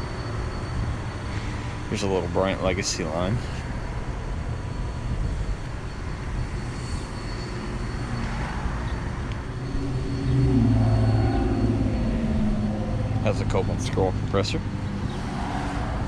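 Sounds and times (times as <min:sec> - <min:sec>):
air conditioner units humming: 0:00.0 - 0:15.1
engine-like drone: 0:00.0 - 0:16.0.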